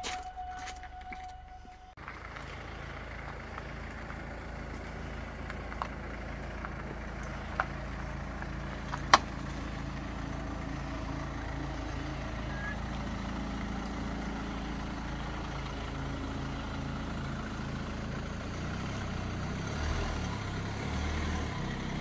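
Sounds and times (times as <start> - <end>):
car engine running low: 0.0 - 22.0.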